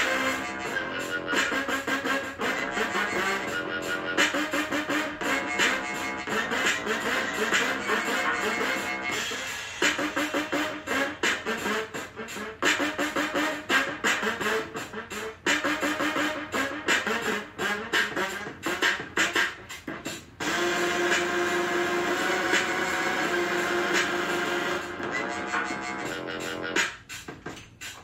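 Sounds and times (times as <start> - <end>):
choppy pitched music notes: 0.0 - 28.0.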